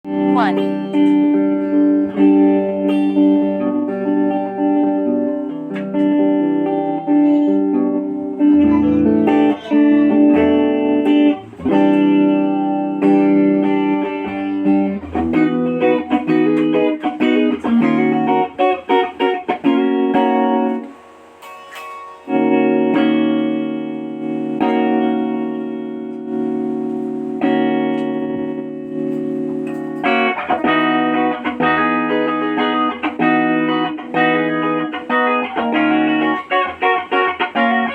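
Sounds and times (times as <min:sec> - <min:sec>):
electric guitar playing: 0:00.0 - 0:37.9.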